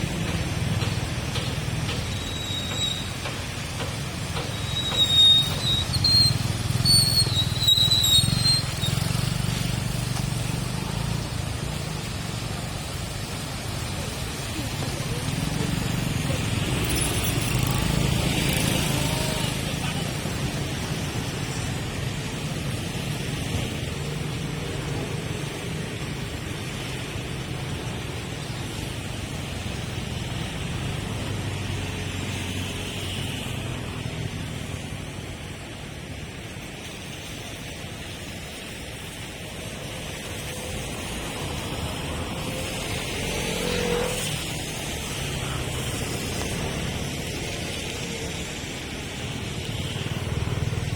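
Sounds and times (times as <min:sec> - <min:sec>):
cars and motorcycles passing: 0:00.0 - 0:50.9.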